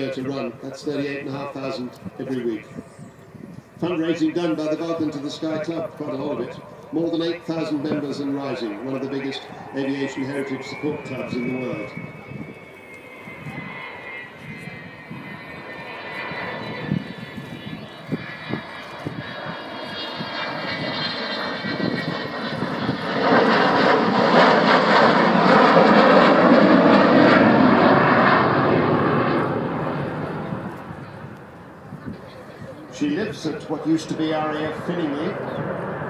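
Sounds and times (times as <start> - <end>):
jet engines whining: 0.0 - 36.0
loud jet rumble: 0.0 - 36.0.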